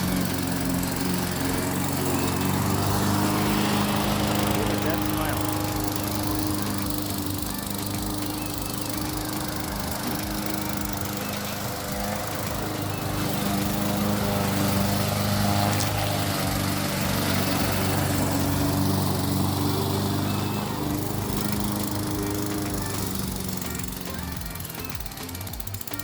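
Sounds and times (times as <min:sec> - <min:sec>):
lawn mower running: 0:00.0 - 0:26.0.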